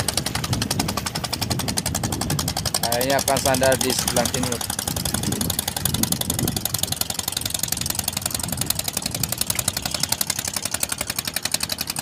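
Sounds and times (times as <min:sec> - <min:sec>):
boat diesel engine knocking: 0:00.0 - 0:12.0.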